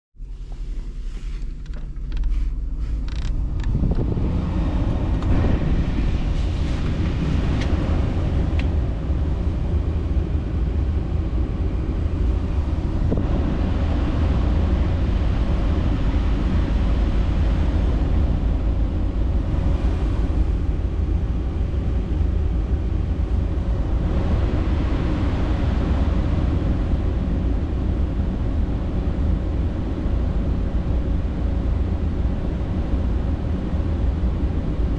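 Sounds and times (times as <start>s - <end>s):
air conditioning blower rushing: 0.7s - 34.9s.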